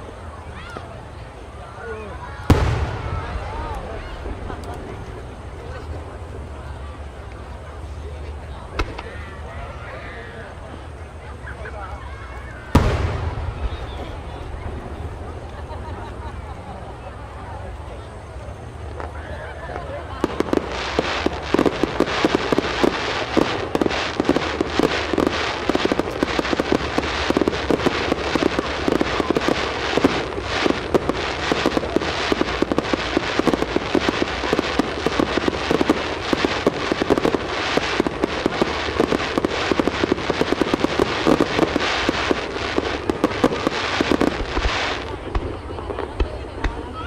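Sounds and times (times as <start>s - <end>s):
fireworks crackling and banging: 0.0s - 47.0s.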